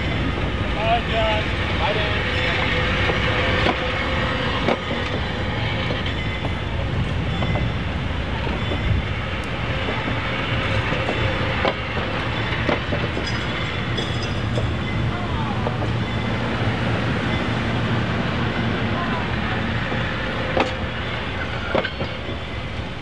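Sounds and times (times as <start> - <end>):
train rumbling: 0.0 - 23.0
wheels clicking on rails: 0.0 - 23.0.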